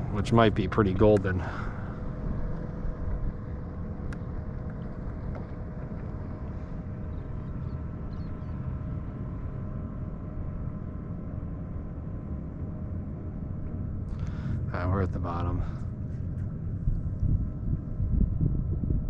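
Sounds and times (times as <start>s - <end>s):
boat motor running: 0.0s - 18.1s.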